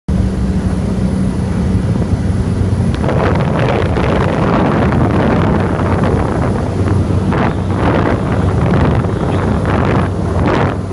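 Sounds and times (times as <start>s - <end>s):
propeller plane drone: 0.1s - 10.9s
rushing noise: 0.1s - 10.9s.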